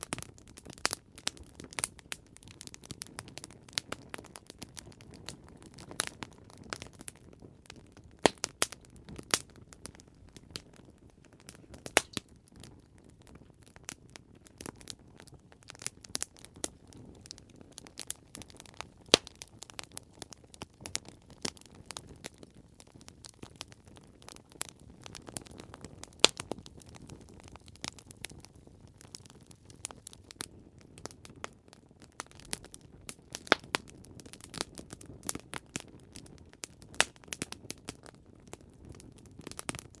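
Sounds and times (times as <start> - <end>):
campfire wood crackling: 0.0 - 40.0.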